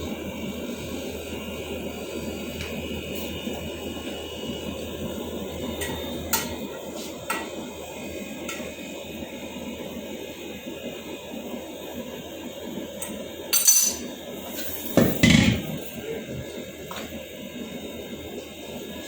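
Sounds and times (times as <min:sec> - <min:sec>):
air conditioner running: 0:00.0 - 0:19.0.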